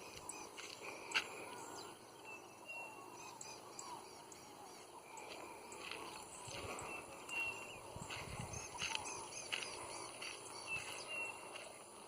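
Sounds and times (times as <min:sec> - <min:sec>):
frogs peeping and chirping: 0:00.0 - 0:12.0.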